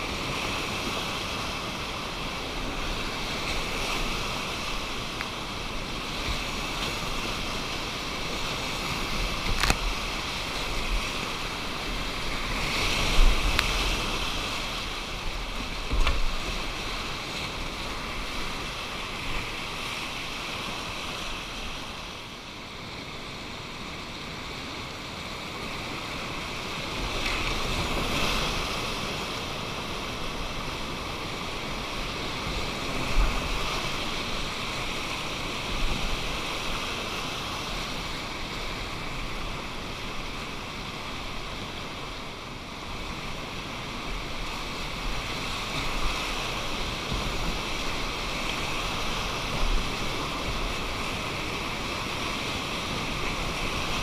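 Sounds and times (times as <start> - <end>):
whitewater river rapids rushing: 0.0 - 54.0.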